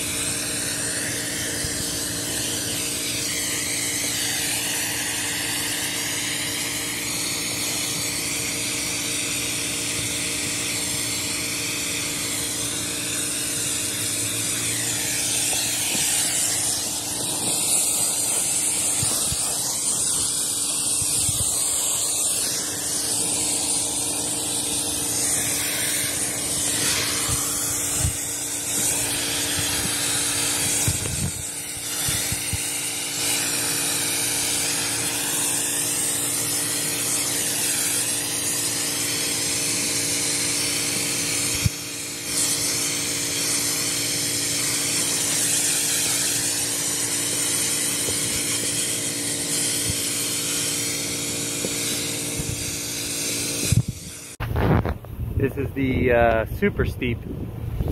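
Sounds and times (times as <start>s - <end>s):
spray wand hissing on roof tiles: 0.0s - 56.4s
constant low hum: 0.0s - 57.9s.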